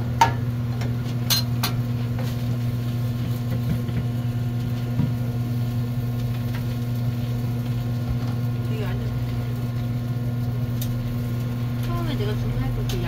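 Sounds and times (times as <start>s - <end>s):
kitchen equipment electrical hum: 0.0s - 13.0s.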